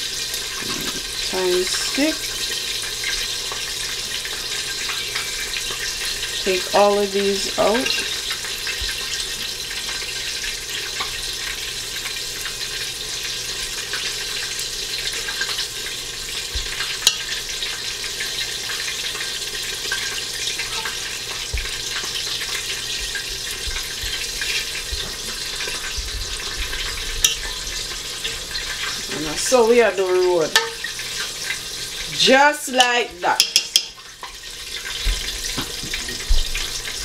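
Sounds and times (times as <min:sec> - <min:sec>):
hot oil sizzling and crackling: 0:00.0 - 0:37.0.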